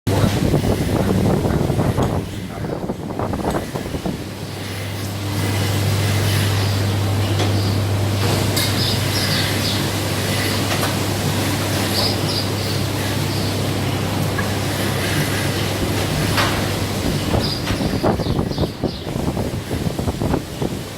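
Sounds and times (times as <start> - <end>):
milking machinery low hum: 0.1 - 20.9
rolling rumbling noise: 0.1 - 20.9.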